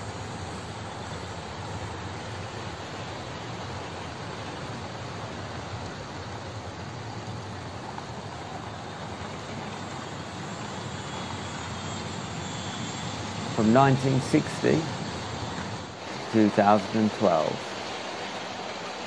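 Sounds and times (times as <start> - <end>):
model trains running on tracks: 0.0 - 19.0.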